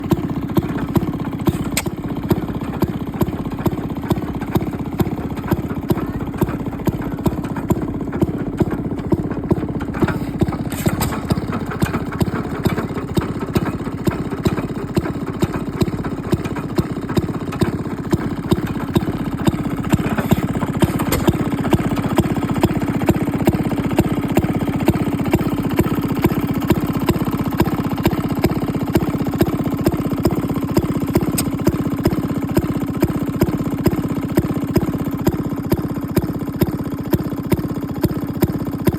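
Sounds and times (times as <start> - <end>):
engine running slowly: 0.0 - 38.9.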